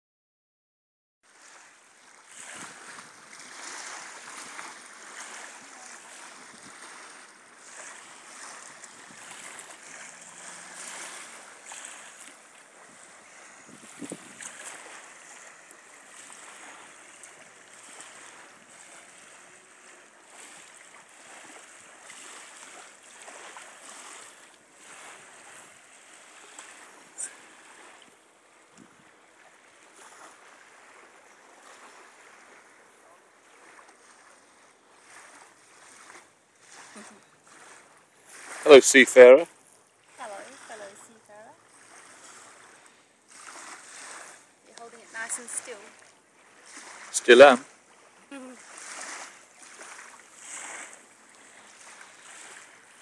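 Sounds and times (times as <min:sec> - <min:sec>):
small waves lapping: 0:01.2 - 0:53.0
wind: 0:01.2 - 0:53.0.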